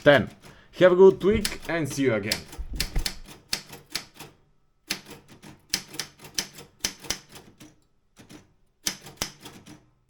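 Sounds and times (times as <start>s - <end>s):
manual typewriter keystrokes: 1.2s - 9.9s.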